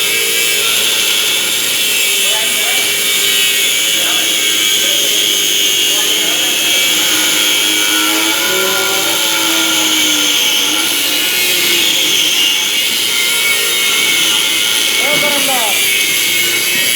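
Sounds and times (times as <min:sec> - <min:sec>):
angle grinder grinding metal: 0:00.0 - 0:16.9.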